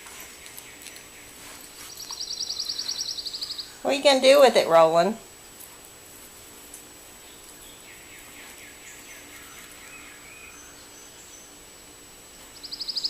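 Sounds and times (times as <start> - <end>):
distant birds chirping: 0.0 - 4.9, 7.0 - 13.0.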